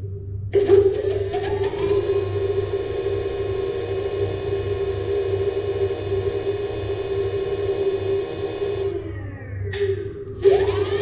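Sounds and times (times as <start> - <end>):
electric motor whining: 0.6 - 9.1, 10.4 - 11.0.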